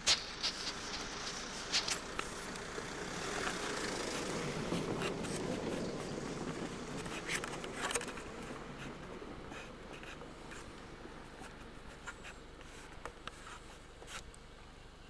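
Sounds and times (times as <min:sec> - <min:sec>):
fingers rubbing on camera: 0:00.0 - 0:02.6, 0:03.4 - 0:14.3
faint outdoor background: 0:00.0 - 0:15.0.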